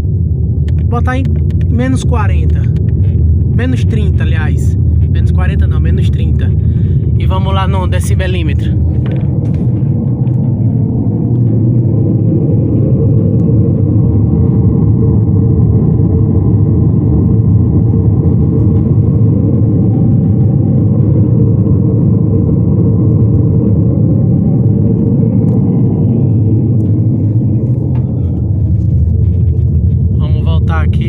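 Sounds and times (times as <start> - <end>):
deep rushing bass noise: 0.0 - 31.0.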